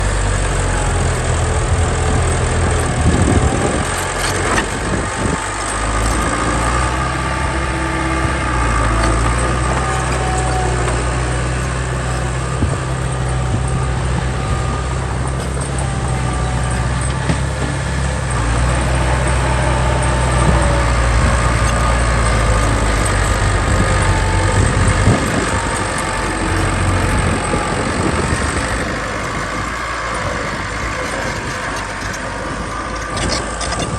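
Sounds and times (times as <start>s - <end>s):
heavy diesel engine rumbling: 0.0s - 33.9s.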